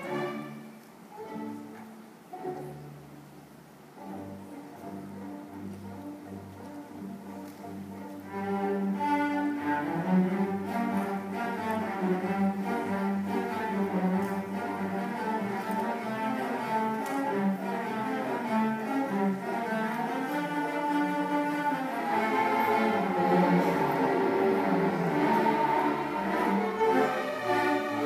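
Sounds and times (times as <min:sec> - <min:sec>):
string orchestra playing: 0:00.0 - 0:28.0.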